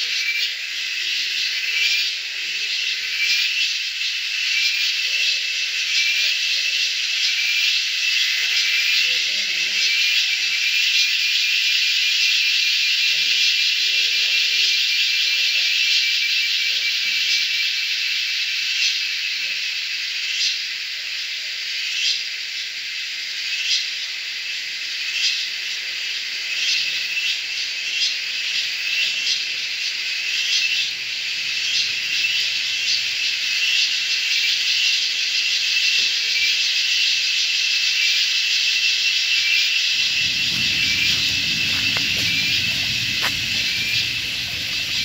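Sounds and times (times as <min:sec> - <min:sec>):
shrill insect chorus: 0:00.0 - 0:45.0.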